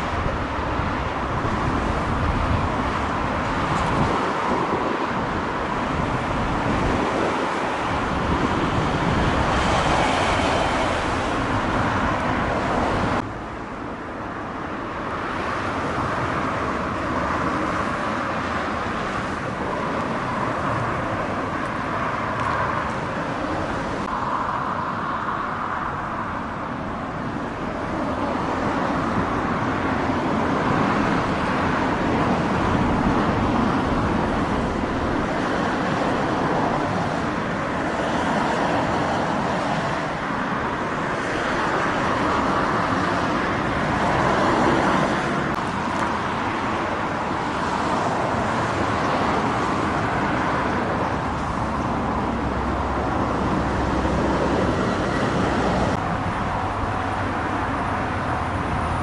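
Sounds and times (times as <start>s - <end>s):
road traffic cars passing: 0.0s - 59.0s.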